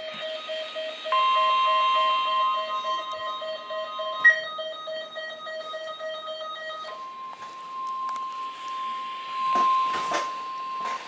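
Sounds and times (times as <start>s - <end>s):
pulsing multi-tone alarm: 0.0s - 11.0s
steady alarm tone: 0.0s - 11.0s.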